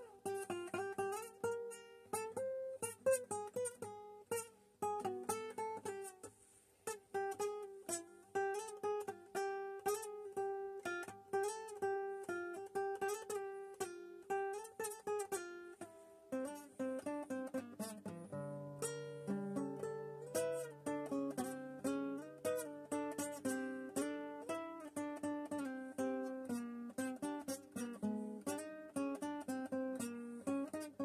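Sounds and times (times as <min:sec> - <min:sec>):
acoustic guitar picking melody: 0:00.0 - 0:31.0.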